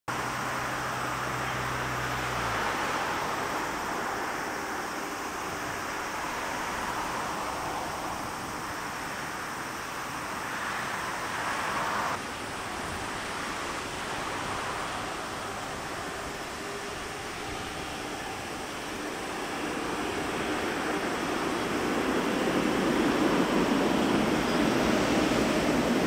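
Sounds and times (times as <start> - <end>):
jet engines rushing hiss: 0.1 - 26.0.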